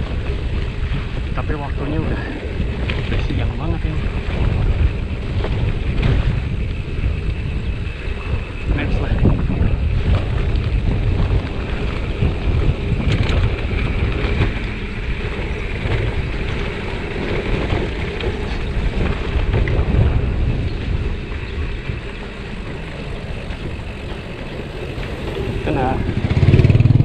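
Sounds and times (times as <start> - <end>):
tyres rolling over concrete: 0.0 - 27.0
wind buffeting microphone: 0.0 - 27.0
light bike clicks: 2.6 - 26.4.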